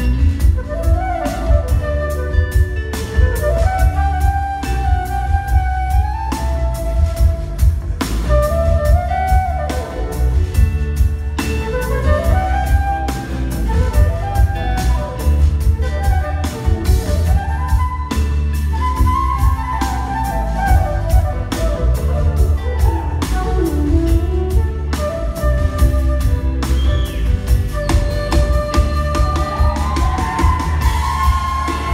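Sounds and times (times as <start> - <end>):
bass guitar: 0.0 - 31.9
drums: 0.0 - 31.9
flute lead line: 0.0 - 31.9.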